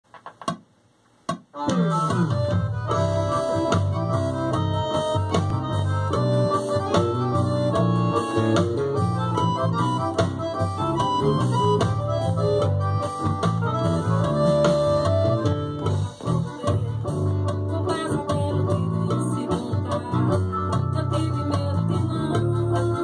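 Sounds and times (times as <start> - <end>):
electric bass line: 1.6 - 23.0.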